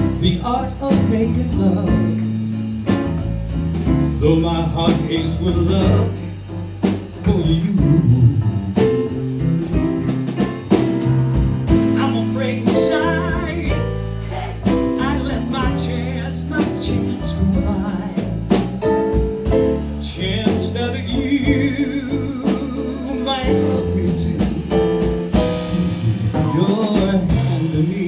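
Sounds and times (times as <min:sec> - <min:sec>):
live band playing slow ballad: 0:00.0 - 0:28.0.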